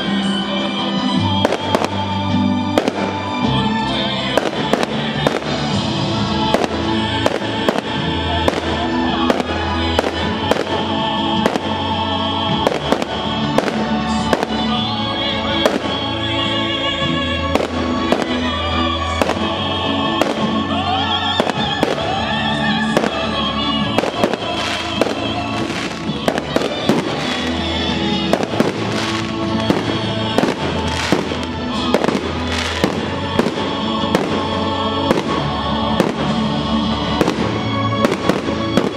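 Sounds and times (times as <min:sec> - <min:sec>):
music playing: 0:00.0 - 0:38.9
fireworks bangs: 0:01.4 - 0:38.9.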